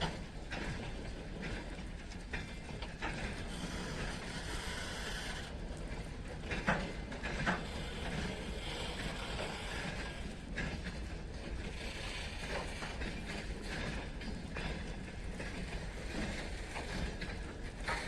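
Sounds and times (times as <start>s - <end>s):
freight wagons rolling: 0.0s - 18.0s.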